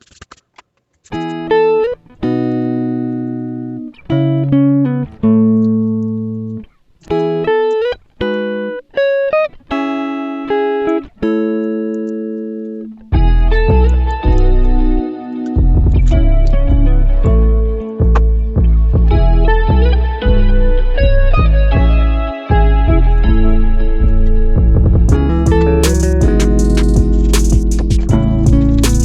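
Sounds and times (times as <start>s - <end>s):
slow sliding guitar melody: 1.1s - 29.0s.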